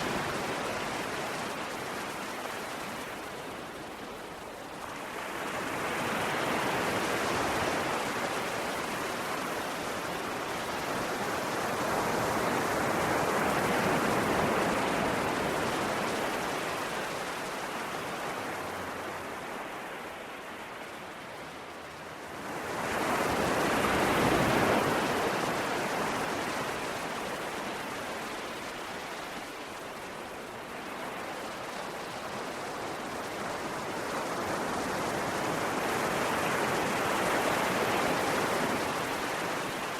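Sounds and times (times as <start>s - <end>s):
ocean waves rushing: 0.0s - 39.9s.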